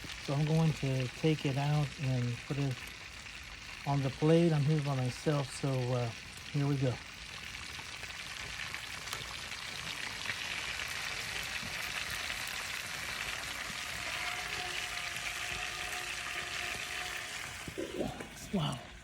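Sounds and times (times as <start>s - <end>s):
fish sizzling in hot oil: 0.0s - 17.9s.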